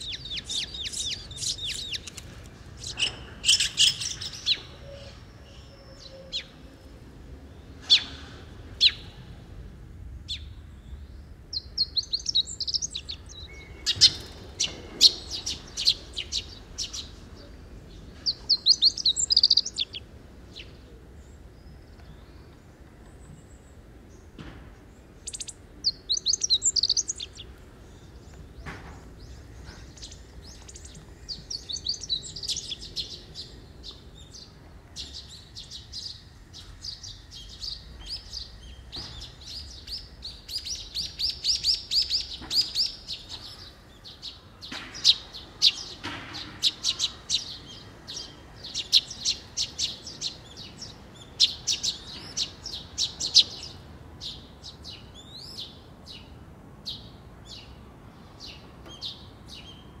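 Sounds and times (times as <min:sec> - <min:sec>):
birds chattering: 0:00.0 - 0:09.5, 0:10.3 - 0:55.8.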